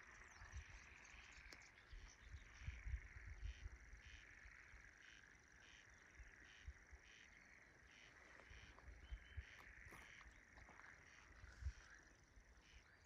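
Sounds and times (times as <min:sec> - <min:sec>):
insects trilling and chirping: 0:00.0 - 0:13.0.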